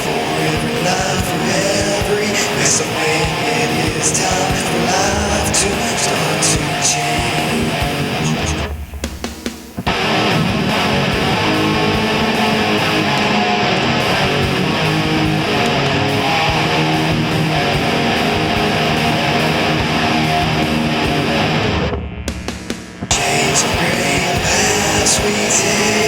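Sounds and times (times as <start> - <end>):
heavy metal electric guitar music: 0.0 - 26.0.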